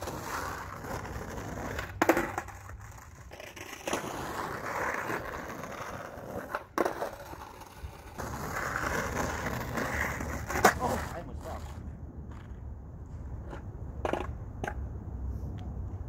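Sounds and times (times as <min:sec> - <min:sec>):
skateboard clacking: 0:00.0 - 0:12.6, 0:13.4 - 0:14.9
skateboard wheels rolling on asphalt: 0:00.0 - 0:16.0.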